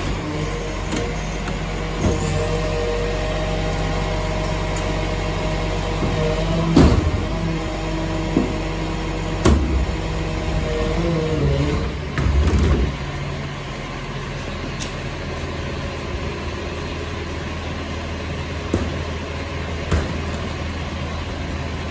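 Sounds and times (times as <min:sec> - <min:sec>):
garbage truck engine and hydraulics: 0:00.0 - 0:21.9.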